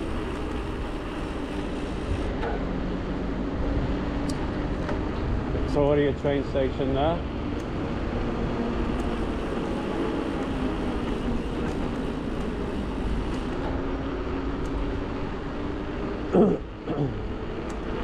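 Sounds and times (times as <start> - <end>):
road noise: 0.0 - 18.0
rushing wind: 0.0 - 18.0
vehicle hum: 0.0 - 18.0.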